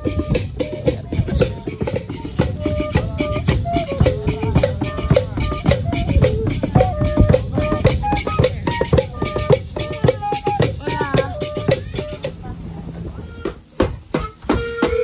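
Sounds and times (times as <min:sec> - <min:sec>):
cane flute melody: 0:00.0 - 0:15.0
drum beat: 0:00.0 - 0:15.0
shaken percussion: 0:00.0 - 0:15.0.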